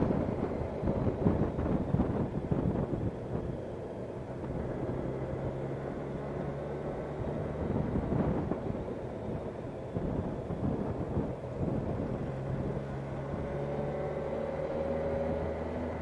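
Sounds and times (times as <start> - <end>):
wind buffeting microphone: 0.0 - 14.2
motorcycle engine running: 0.0 - 16.0.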